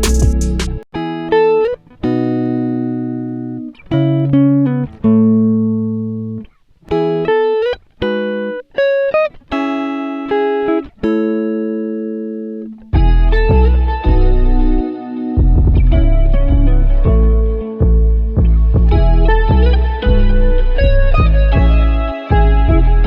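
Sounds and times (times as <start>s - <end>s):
guitar playing picked notes: 0.0s - 23.0s.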